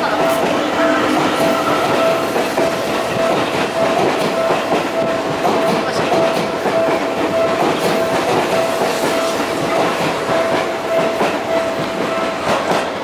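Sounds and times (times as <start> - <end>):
electric train rolling: 0.0 - 13.0
train wheels clacking on rail joints: 0.0 - 13.0.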